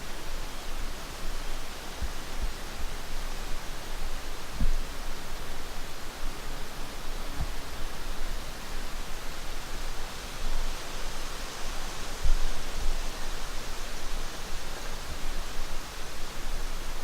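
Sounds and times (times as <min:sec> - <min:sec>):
wind in trees and microphone: 0:00.0 - 0:17.0.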